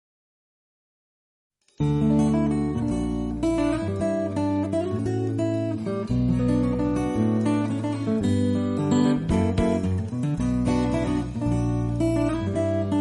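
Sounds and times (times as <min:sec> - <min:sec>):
strummed acoustic guitar music: 0:01.7 - 0:13.0.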